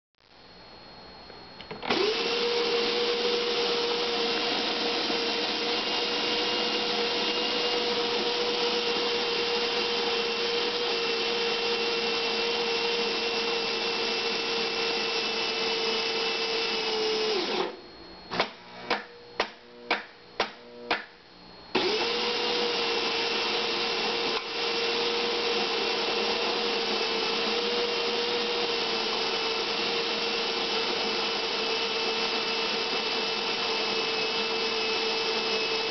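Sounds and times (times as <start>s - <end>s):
espresso machine motor whirring: 1.6s - 20.0s, 21.7s - 35.9s.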